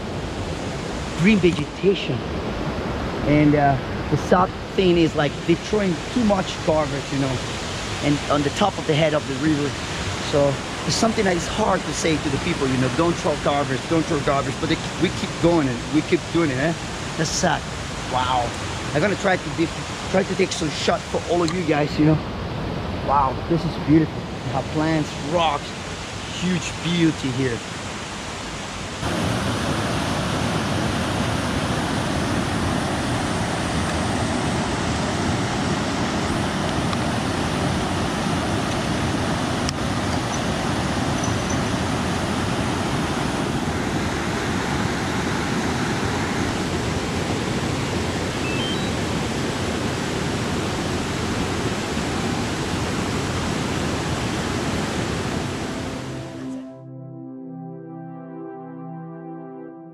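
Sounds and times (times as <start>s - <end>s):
waterfall and river rushing: 0.0s - 56.6s.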